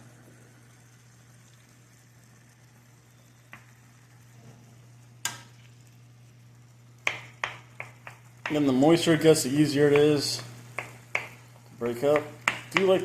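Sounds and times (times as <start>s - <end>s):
noodles sizzling in pan: 0.0s - 13.0s.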